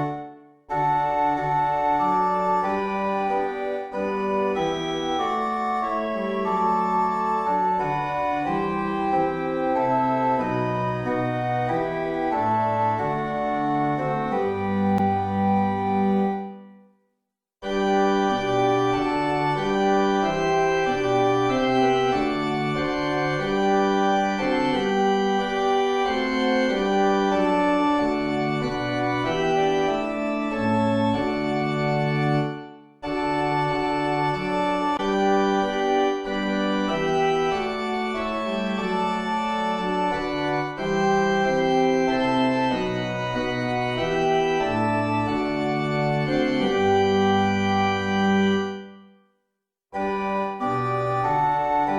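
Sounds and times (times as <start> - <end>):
organ playing chords: 0.0 - 16.7, 17.6 - 49.1, 50.0 - 51.9.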